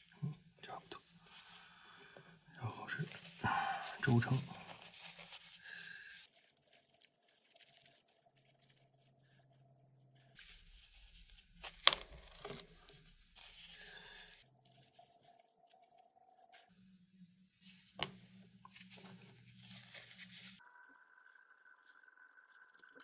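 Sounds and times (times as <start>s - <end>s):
soft rustling and scraping: 0.0s - 1.7s, 2.7s - 16.7s, 17.6s - 21.0s.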